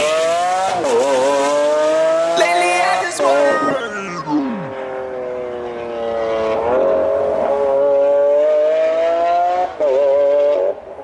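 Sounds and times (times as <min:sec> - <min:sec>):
car engine accelerating: 0:00.0 - 0:10.9.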